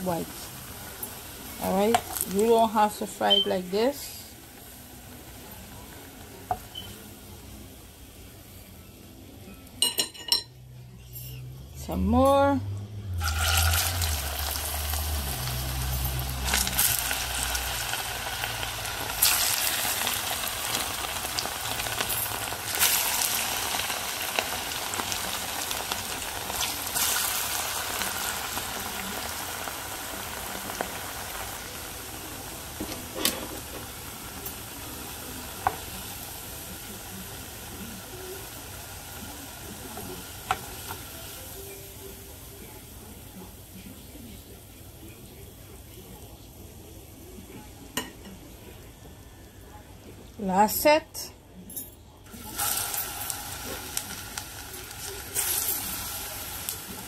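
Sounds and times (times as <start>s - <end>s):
plantain deep-frying sizzle: 0.0s - 8.4s, 11.4s - 46.4s, 52.3s - 57.0s.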